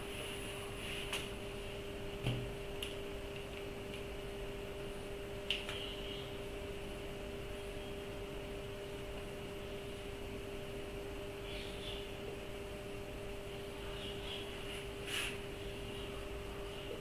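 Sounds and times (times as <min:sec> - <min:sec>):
faint pitched hum: 0:00.0 - 0:17.0.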